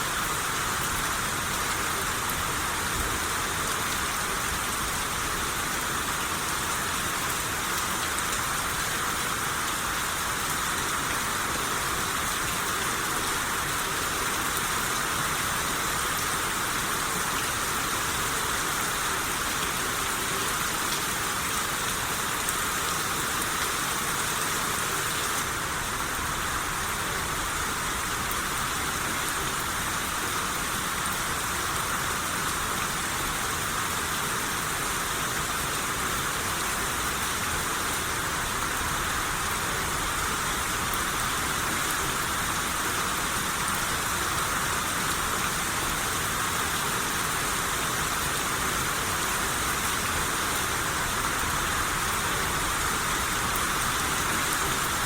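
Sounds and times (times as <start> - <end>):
steady rain shower: 0.0 - 55.0.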